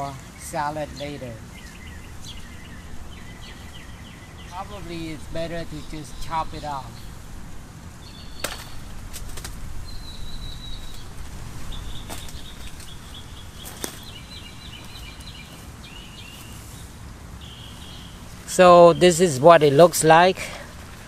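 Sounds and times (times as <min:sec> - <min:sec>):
high chirping: 0:00.0 - 0:07.2, 0:08.0 - 0:09.0, 0:09.7 - 0:20.3.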